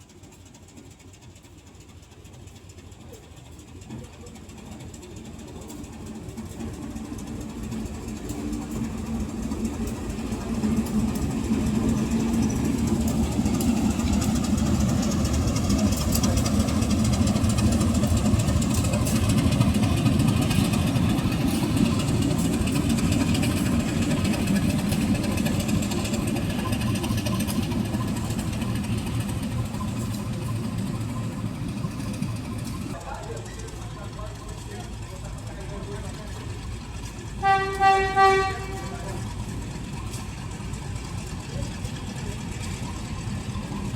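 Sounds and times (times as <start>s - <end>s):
diesel locomotive engine passing: 0.0s - 43.9s.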